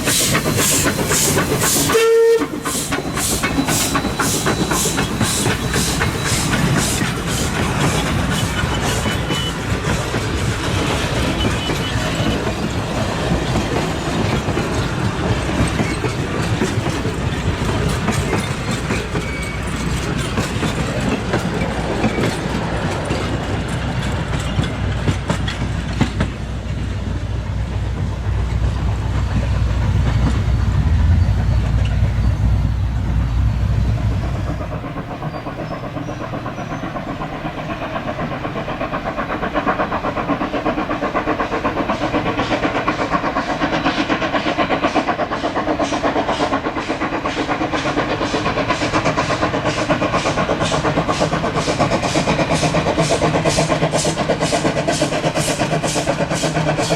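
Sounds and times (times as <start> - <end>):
heavy low train rumble: 0.0 - 56.9
steam locomotive exhaust beats: 0.0 - 56.9.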